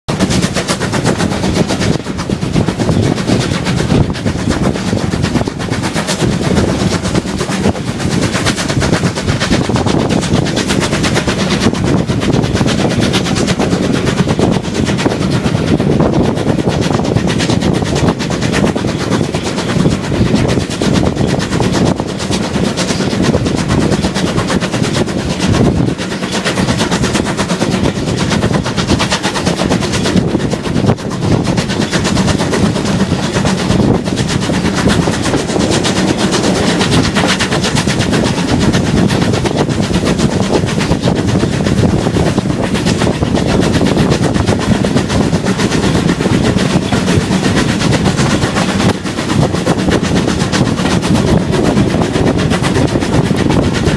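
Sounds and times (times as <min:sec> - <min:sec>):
steam train exhaust beats: 0:00.1 - 0:53.9
train wheels on rails: 0:00.1 - 0:53.9
wind buffeting microphone: 0:00.1 - 0:53.9.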